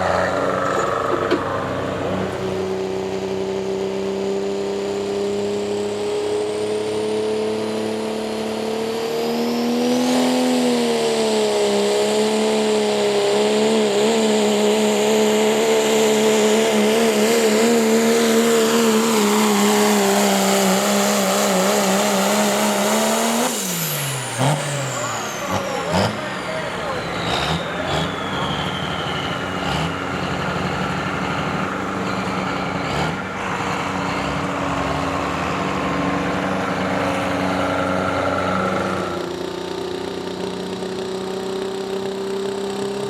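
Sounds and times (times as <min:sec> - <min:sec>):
engine running at high revs: 0:00.0 - 0:43.0.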